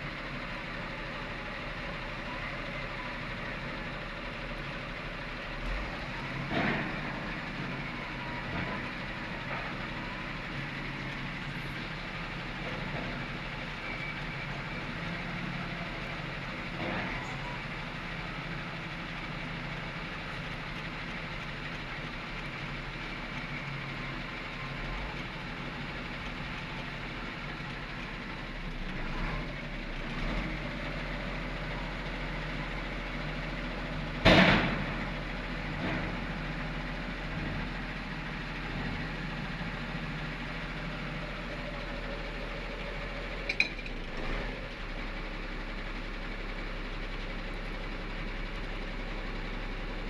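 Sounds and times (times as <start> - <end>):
heavy diesel engine running: 0.0 - 50.0.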